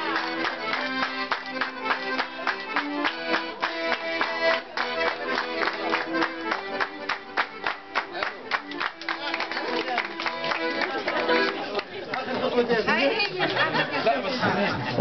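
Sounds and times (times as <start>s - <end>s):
accordion melody: 0.0s - 13.3s.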